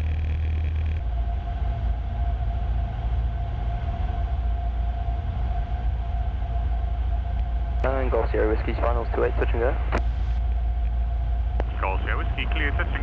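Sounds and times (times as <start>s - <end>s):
airplane engine drone: 0.0s - 13.0s
steady whine: 0.0s - 13.0s.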